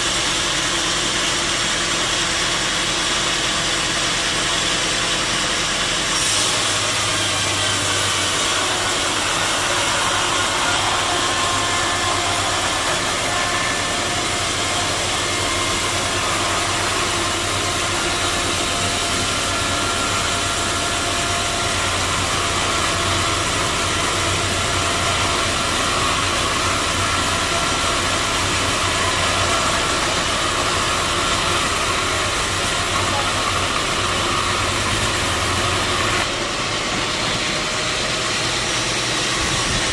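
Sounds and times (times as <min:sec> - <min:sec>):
sawmill machinery humming and whining: 0:00.0 - 0:39.9.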